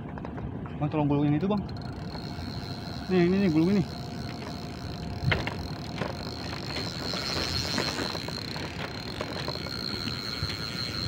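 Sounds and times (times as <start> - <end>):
fishing reel ratcheting clicks: 1.4 - 11.0.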